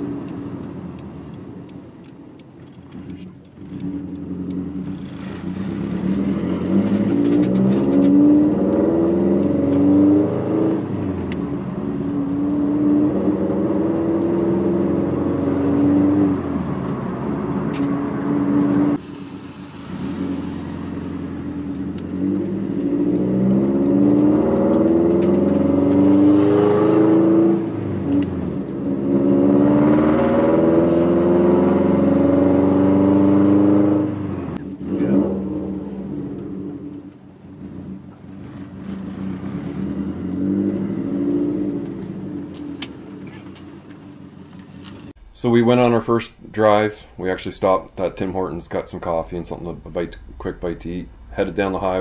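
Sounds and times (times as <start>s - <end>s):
car engine accelerating through gears: 0.0s - 45.2s.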